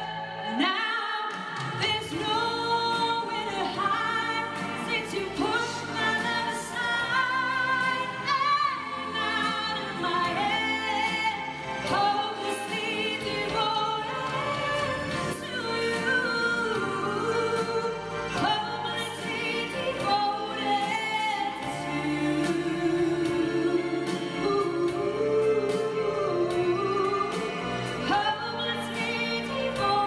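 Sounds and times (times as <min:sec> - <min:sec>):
choir singing: 0:01.9 - 0:30.0.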